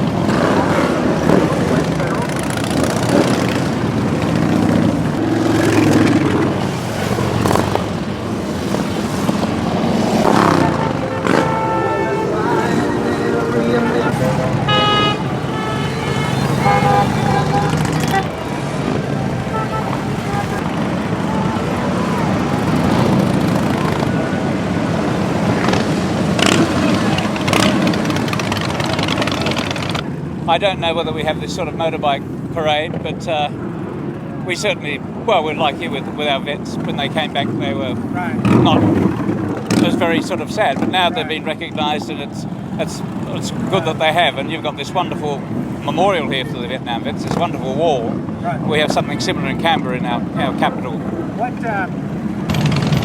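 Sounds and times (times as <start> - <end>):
motorcycles riding past: 0.0 - 53.0.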